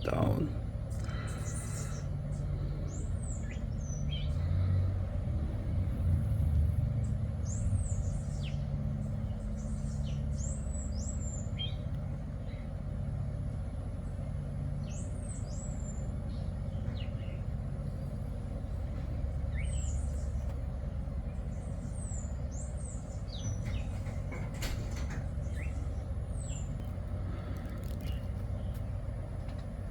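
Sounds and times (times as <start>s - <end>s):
birds chirping: 0.0s - 5.8s, 7.0s - 29.9s.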